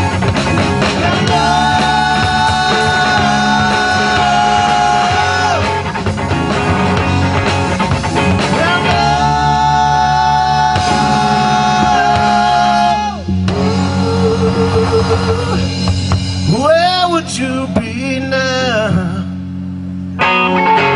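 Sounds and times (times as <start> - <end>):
long held high guitar notes: 0.0 - 20.9
rock band jamming: 0.0 - 20.9.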